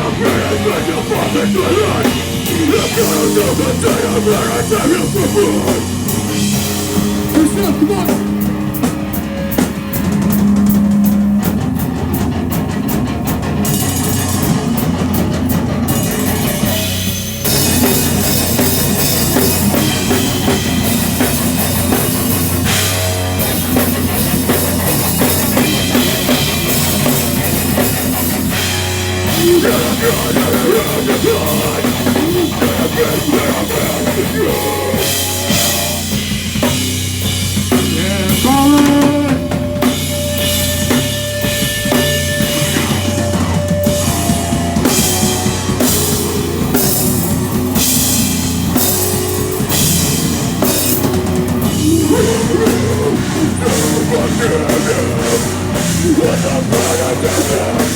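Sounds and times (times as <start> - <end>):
heavy rock band playing live: 0.0 - 57.9
pounding drum kit: 0.0 - 57.9.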